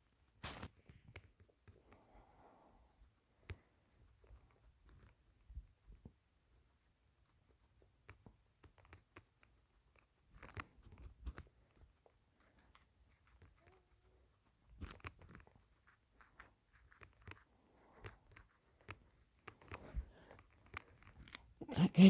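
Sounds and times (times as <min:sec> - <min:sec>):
pet crunching a carrot: 0:03.0 - 0:22.0.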